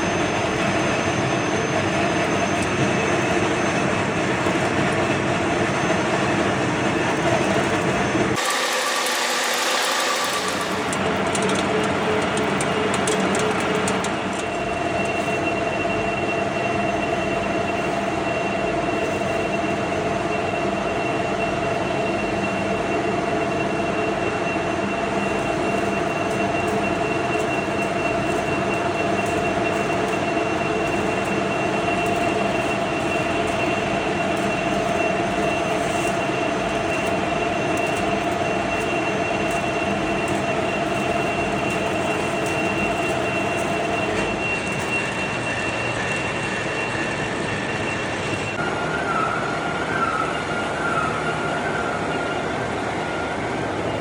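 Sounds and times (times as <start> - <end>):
lathe cutting metal: 0.0 - 22.2, 23.7 - 48.6
constant high whine: 0.0 - 54.0.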